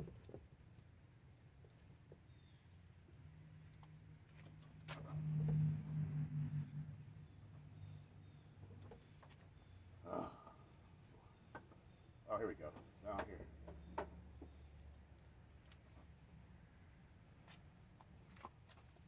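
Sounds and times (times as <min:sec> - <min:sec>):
insects trilling: 0:00.0 - 0:18.7.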